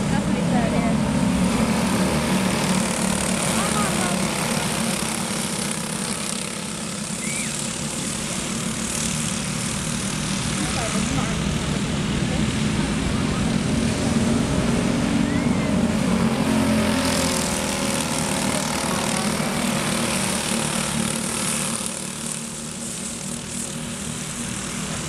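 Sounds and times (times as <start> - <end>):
racing kart engines: 0.0 - 25.0.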